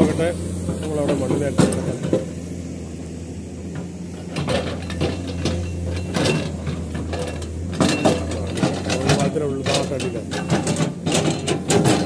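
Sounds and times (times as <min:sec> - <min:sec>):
diesel engine running: 0:00.0 - 0:12.0
metallic clanks and knocks: 0:00.7 - 0:02.3, 0:03.8 - 0:12.0.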